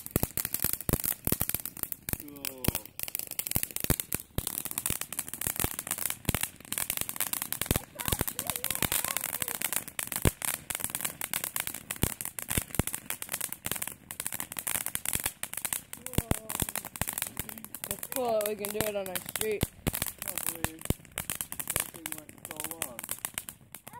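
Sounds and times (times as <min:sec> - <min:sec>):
fireworks crackling and popping: 0:00.0 - 0:23.9.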